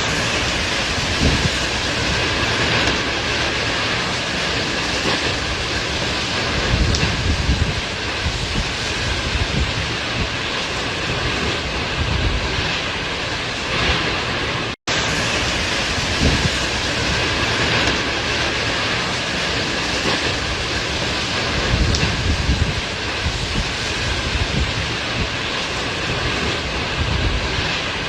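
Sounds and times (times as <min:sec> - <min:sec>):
tornado wind rushing: 0:00.0 - 0:28.0
wind gusts buffeting microphone: 0:00.0 - 0:28.0.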